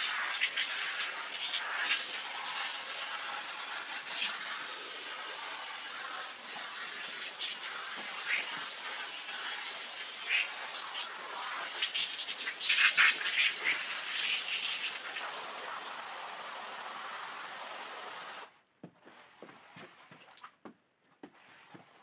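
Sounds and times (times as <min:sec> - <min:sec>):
hose spray hissing: 0:00.0 - 0:18.5.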